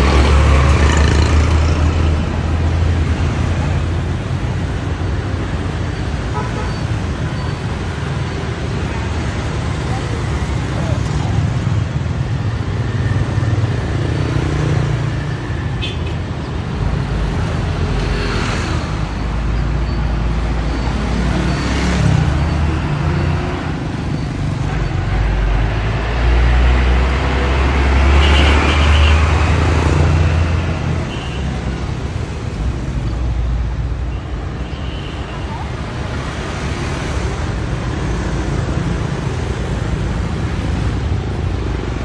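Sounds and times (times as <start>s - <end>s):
motorbikes and cars passing: 0.0s - 42.0s.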